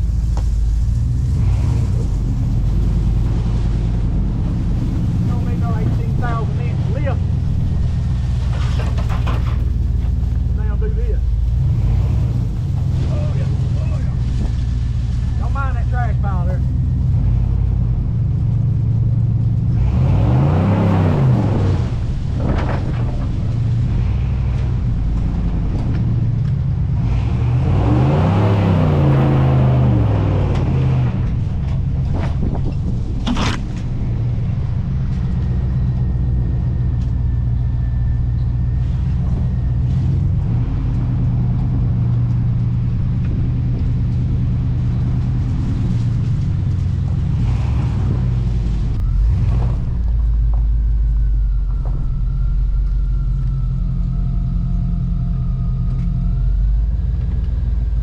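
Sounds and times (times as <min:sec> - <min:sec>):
pickup truck engine running: 0:00.0 - 0:58.0.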